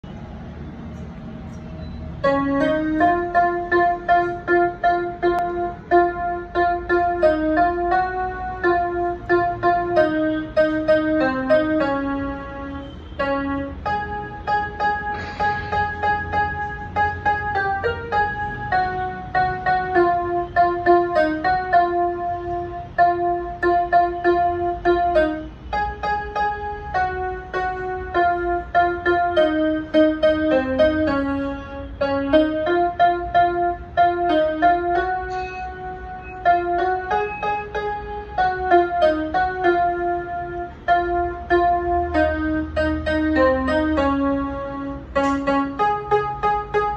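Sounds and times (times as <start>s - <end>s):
electronic keyboard slow melody: 0.9s - 46.9s.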